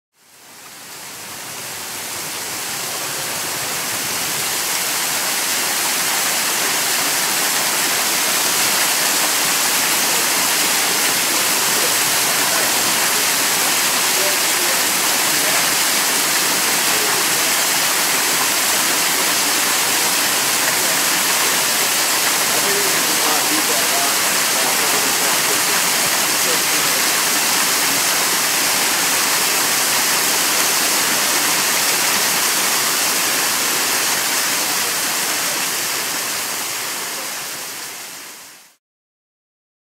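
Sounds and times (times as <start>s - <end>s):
waterfall splashing onto rock: 0.6s - 38.4s.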